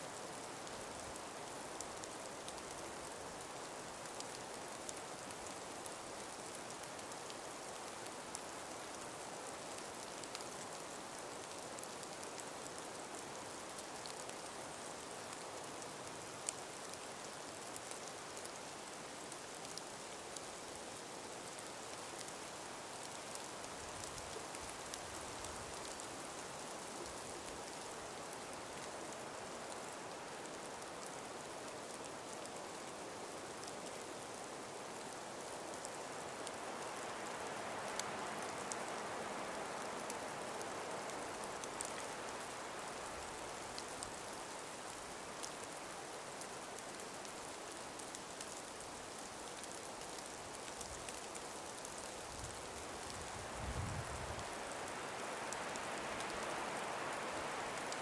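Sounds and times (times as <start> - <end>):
faint scattered ticks: 0.0 - 58.0
soft breeze hiss: 0.0 - 58.0.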